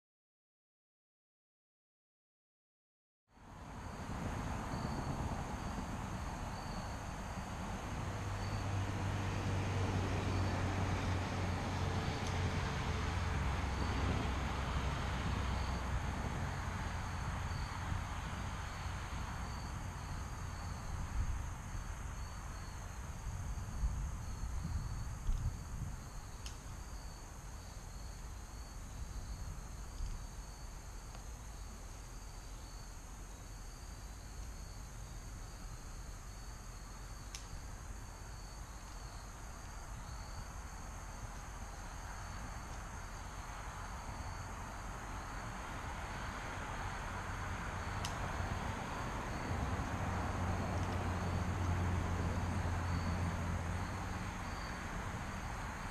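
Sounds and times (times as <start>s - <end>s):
crickets chirping: 3.4s - 55.9s.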